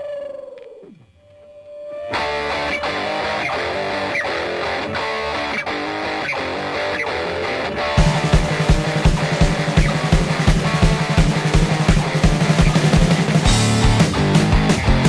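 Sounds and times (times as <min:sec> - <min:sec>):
electric guitar: 0:00.6 - 0:15.0
rock band with drums: 0:02.1 - 0:15.0.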